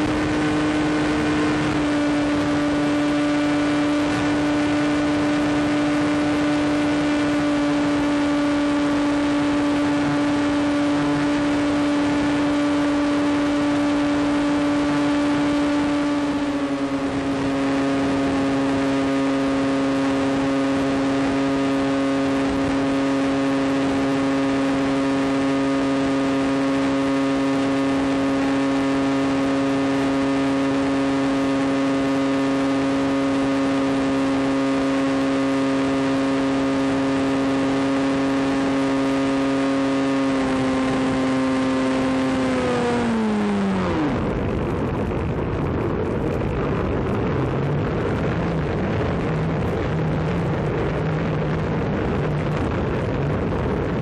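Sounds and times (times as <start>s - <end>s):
electric motor and propeller hum: 0.0s - 54.0s.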